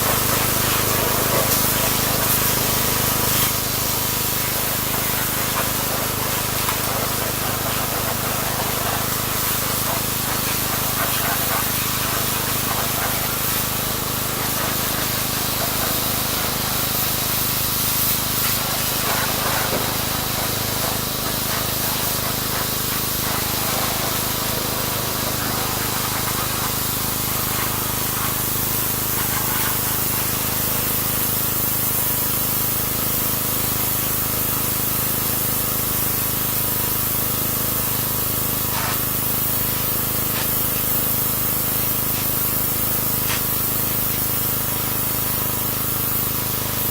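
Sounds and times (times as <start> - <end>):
pressure washer motor hum: 0.0 - 46.9
pressure washer water jet hiss: 0.0 - 46.9.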